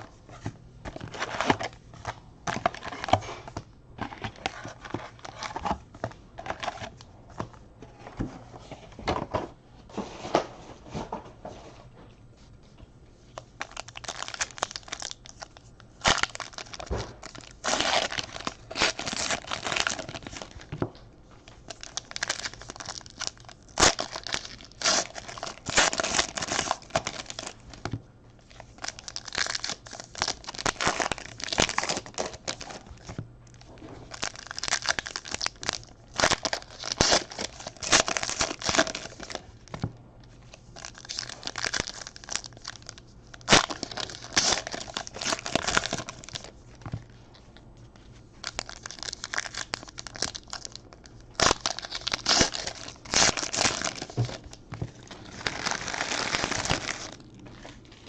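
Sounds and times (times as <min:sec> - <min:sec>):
wrappers crinkling and tearing: 0:00.9 - 0:05.8, 0:13.3 - 0:20.8, 0:21.5 - 0:47.2, 0:48.4 - 0:58.0.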